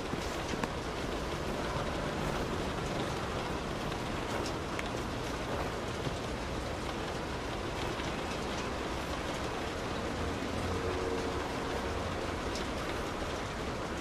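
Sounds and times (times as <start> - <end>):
individual raindrop taps: 0.0 - 14.0
rain drumming on car roof: 0.0 - 14.0.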